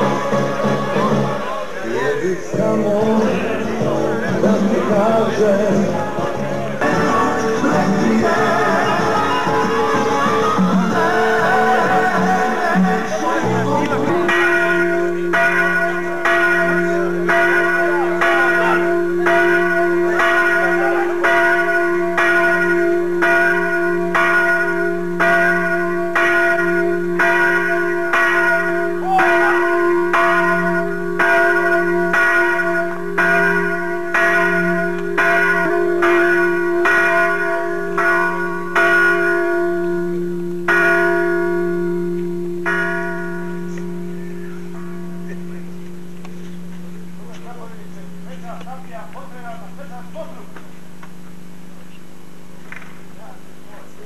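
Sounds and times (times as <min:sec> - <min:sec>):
church bell ringing: 0:00.0 - 0:01.7, 0:02.8 - 0:50.5.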